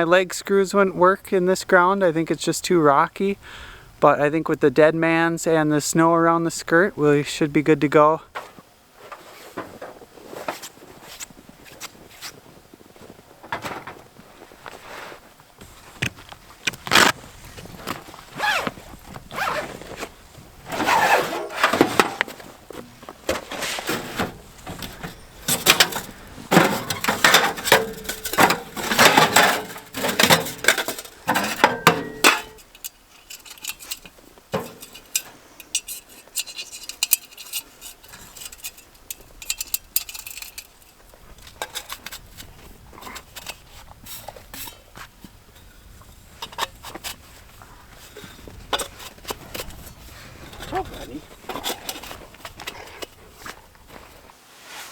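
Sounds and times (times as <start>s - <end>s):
camping gear scraping and clinking: 8.3s - 54.9s.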